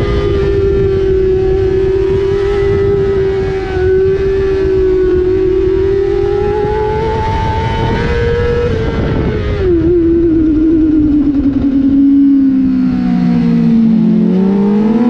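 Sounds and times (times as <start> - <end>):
motorcycle engine revving high: 0.0 - 15.0
wind rush on microphone: 0.0 - 15.0.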